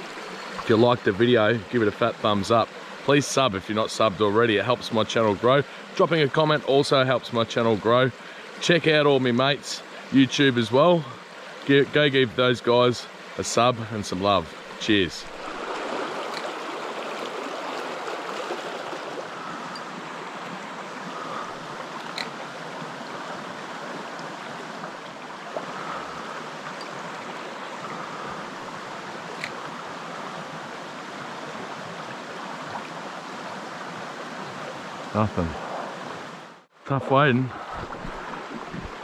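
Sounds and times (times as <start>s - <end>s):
creek running over rocks: 0.0s - 39.0s.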